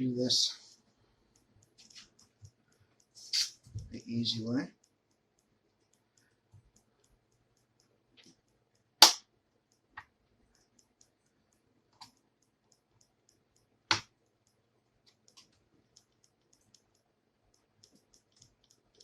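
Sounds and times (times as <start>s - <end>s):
faint clicks: 0.9s - 3.2s, 4.0s - 8.9s, 9.5s - 19.0s.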